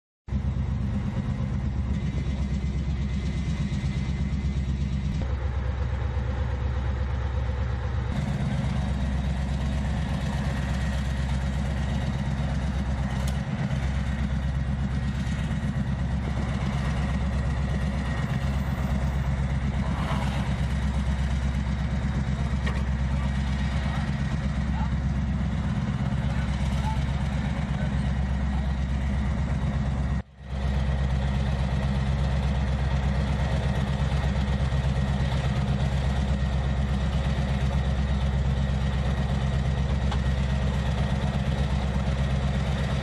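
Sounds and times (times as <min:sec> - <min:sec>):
diesel engine idling: 0:00.3 - 0:43.0.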